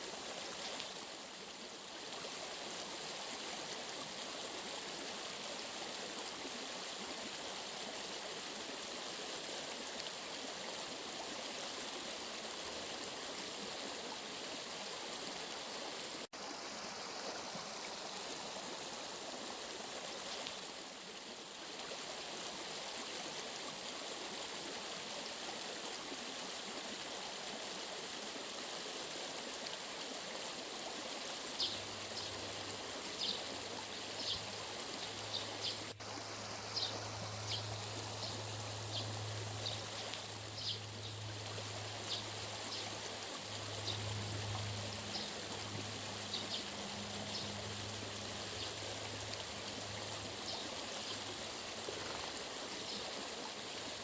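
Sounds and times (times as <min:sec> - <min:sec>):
stream rushing and trickling: 0:00.0 - 0:54.0.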